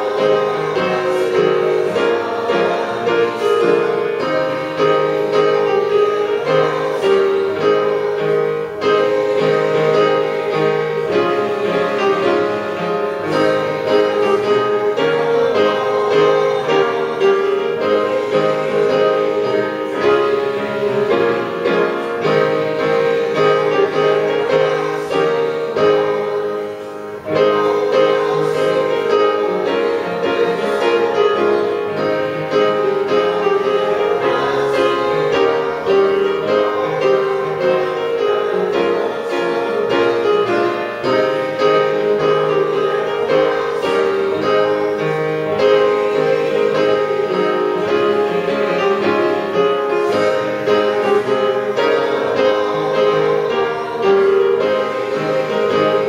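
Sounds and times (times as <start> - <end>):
slow keyboard music: 0.0 - 56.0.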